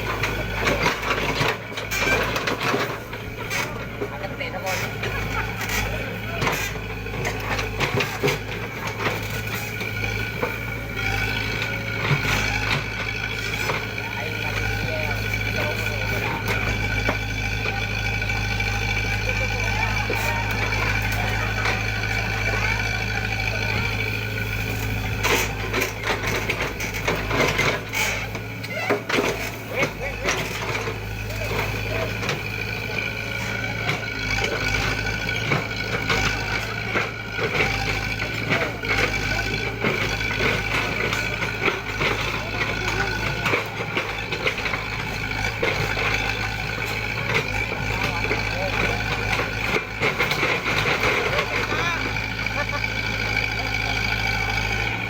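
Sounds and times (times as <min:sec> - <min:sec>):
heavy machine engine running: 0:00.0 - 0:55.0.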